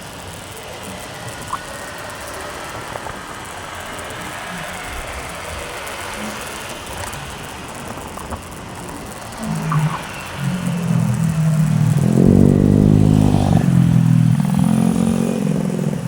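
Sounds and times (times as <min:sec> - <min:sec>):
faint clicks: 0:00.0 - 0:16.0
wind and road rush: 0:00.0 - 0:16.0.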